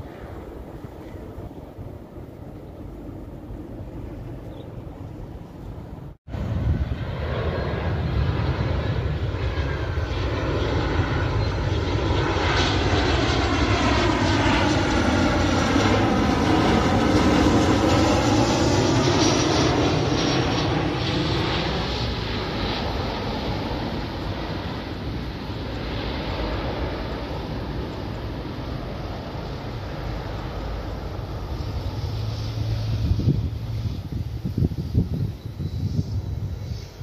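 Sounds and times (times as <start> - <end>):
faint distant jet noise: 0.0 - 37.0
jet airliner passing overhead: 0.0 - 37.0.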